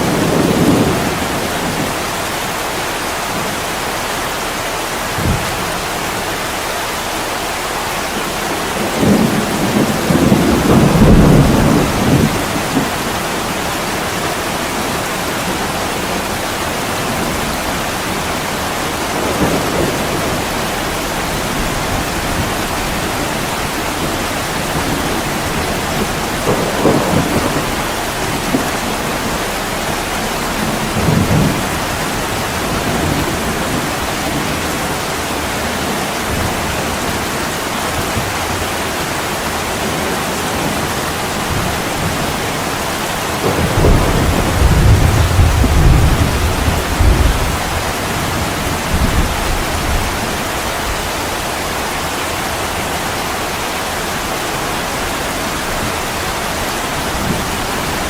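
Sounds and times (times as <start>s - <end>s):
low thunder rumbles: 0.0s - 51.9s, 53.5s - 58.0s
heavy rain on a window: 0.0s - 58.0s.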